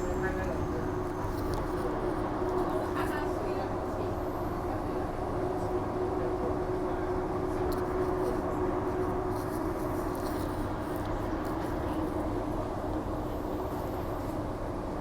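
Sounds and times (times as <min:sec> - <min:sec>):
steady train hum: 0:00.0 - 0:15.0.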